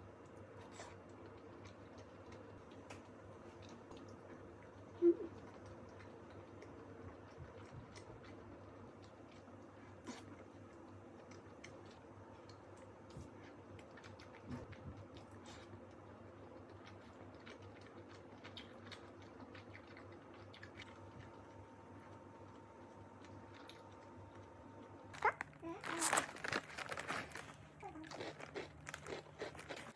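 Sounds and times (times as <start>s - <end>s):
faint eating sounds: 0.0s - 29.9s
chewing: 0.2s - 29.9s.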